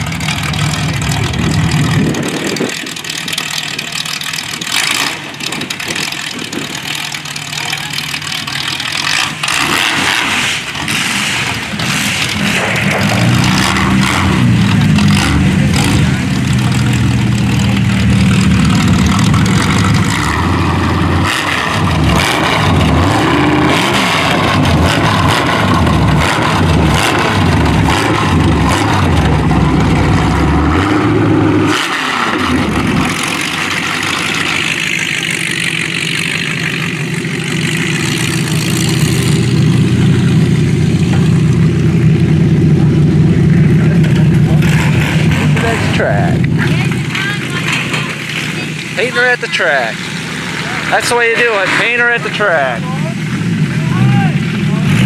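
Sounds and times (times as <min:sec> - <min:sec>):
car engine revving: 0:00.0 - 0:55.0
engine idling: 0:00.0 - 0:55.0.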